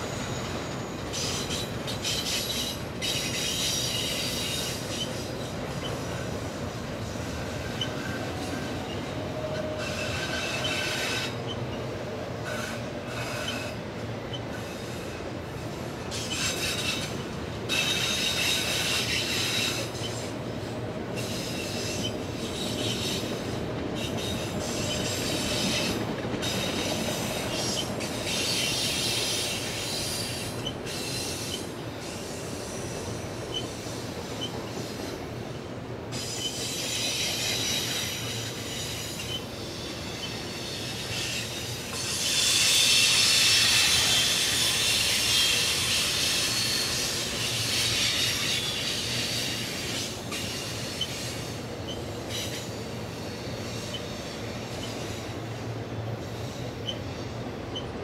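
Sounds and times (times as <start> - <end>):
freight train rumbling on rails: 0.0 - 58.0
train wheels squealing: 0.0 - 58.0.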